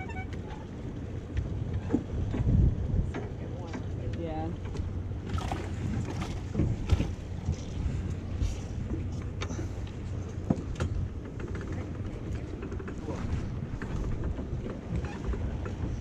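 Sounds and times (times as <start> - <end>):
water around boat: 0.0 - 16.0
wind on microphone: 0.0 - 16.0.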